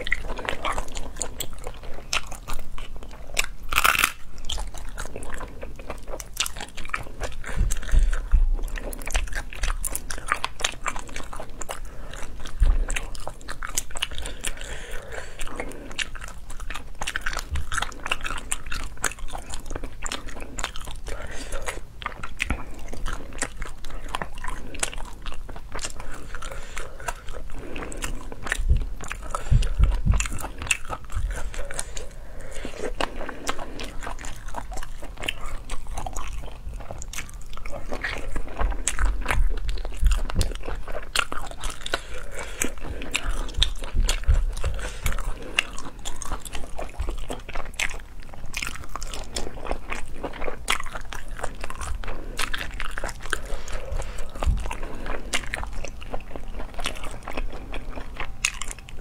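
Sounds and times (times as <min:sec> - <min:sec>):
wet crunchy chewing: 0:00.0 - 0:59.0.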